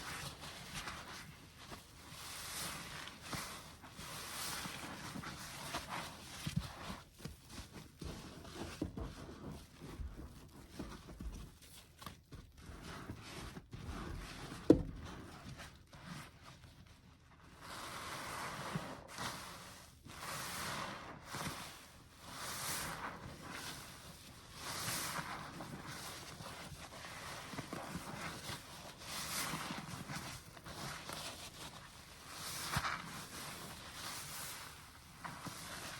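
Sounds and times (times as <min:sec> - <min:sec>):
foam sponges squishing: 0:00.0 - 0:35.9.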